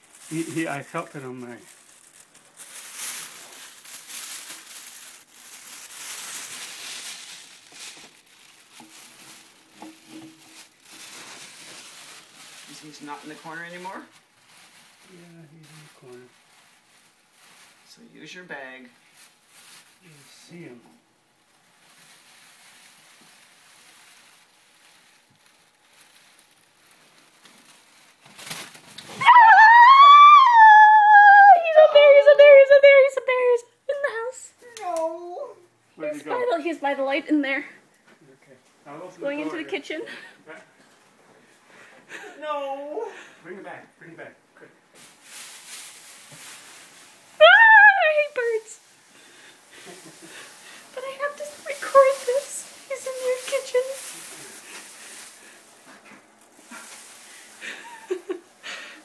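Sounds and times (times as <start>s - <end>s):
plastic bag crinkling: 0.0s - 33.5s, 45.0s - 59.0s.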